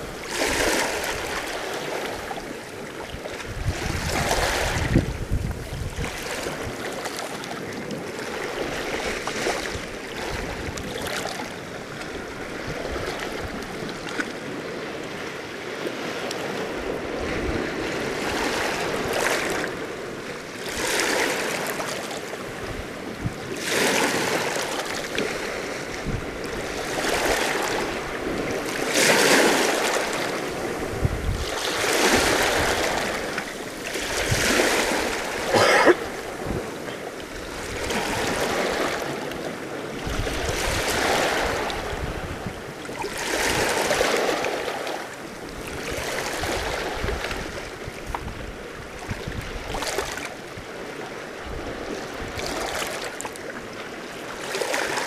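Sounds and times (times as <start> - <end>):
waves lapping against rocky shore: 0.0 - 55.0.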